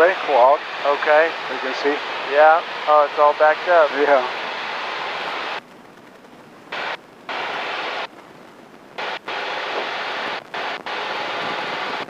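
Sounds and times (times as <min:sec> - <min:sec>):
engine and wind hiss through intercom: 0:00.0 - 0:05.6, 0:06.7 - 0:12.0.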